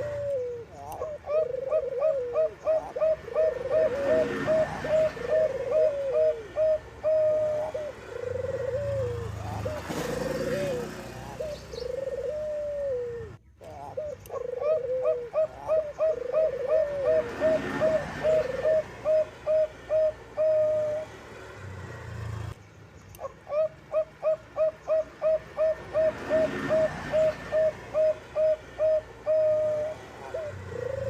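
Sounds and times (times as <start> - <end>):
dove cooing: 0.0 - 21.3, 23.2 - 31.0.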